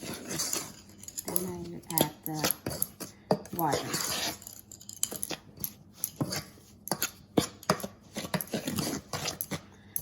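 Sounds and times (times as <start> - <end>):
utensil stirring dough in bowl: 0.0 - 10.0.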